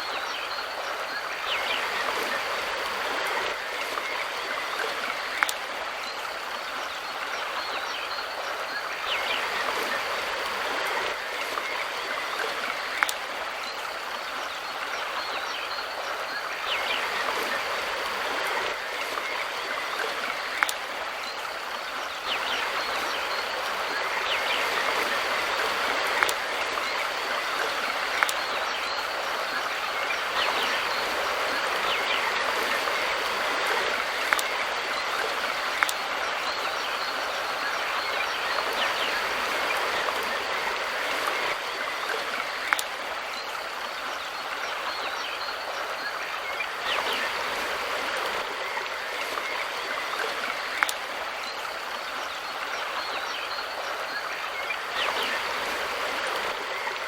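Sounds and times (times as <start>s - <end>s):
river water running: 0.0s - 57.0s
sharp clicks from water: 0.0s - 57.0s.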